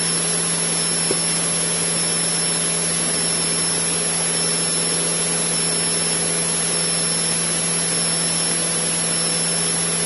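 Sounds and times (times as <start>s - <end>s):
airplane engine and propeller drone: 0.0s - 10.0s.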